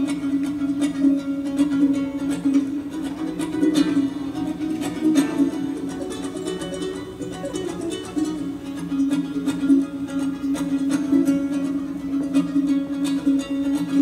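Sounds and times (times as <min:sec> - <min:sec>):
plucked lute-like string instrument: 0:00.0 - 0:14.0.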